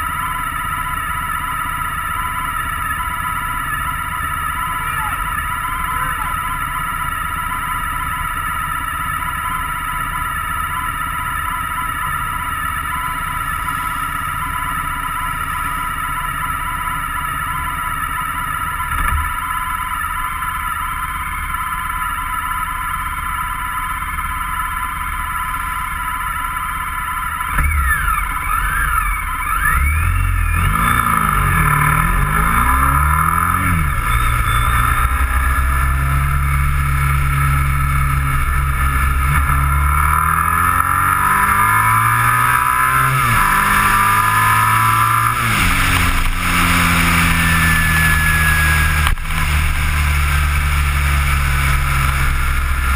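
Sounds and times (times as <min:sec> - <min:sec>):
vehicle engine idling and accelerating: 0:00.0 - 0:52.9.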